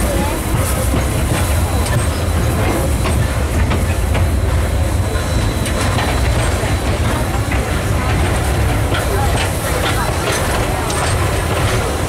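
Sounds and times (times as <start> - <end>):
train carriages rumbling on track: 0.0 - 12.0.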